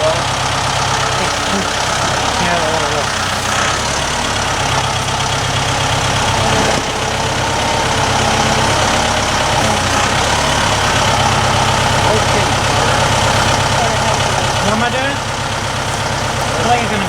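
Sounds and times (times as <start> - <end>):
loader engine idling: 0.0 - 17.0.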